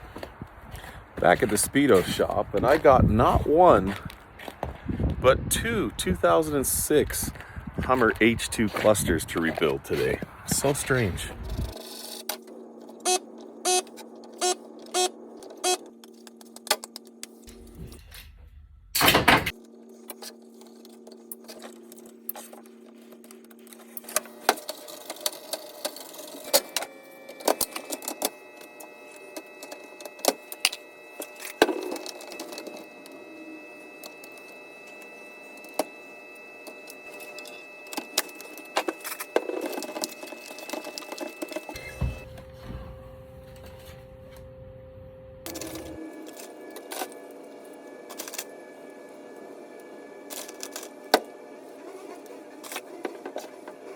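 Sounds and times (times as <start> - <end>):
faint steady hum: 0.0 - 51.5.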